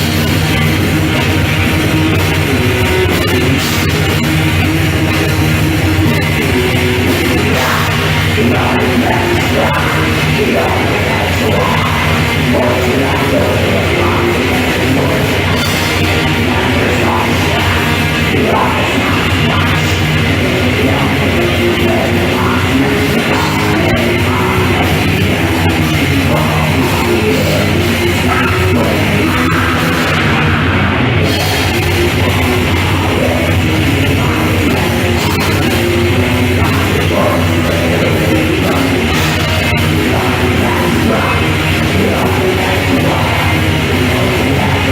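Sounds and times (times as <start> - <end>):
heavy metal band playing live: 0.0 - 44.9.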